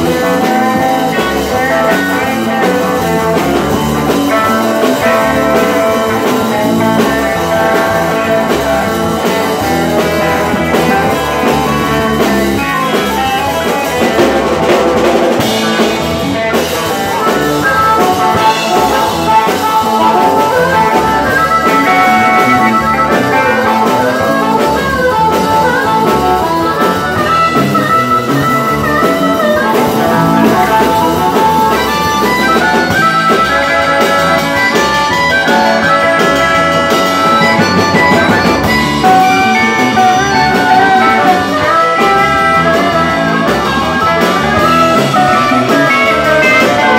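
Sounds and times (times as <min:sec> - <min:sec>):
blues-rock band playing: 0:00.0 - 0:46.9
harmonica playing lead: 0:00.0 - 0:46.9.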